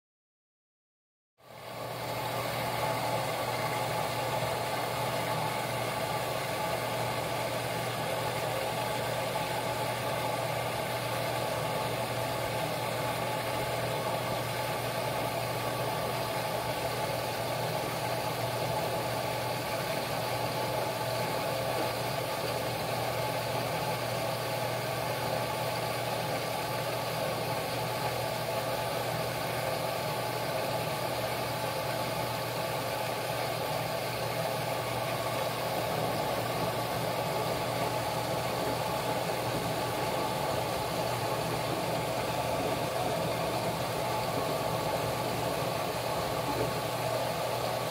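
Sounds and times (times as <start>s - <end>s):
washing machine humming: 1.4s - 47.9s.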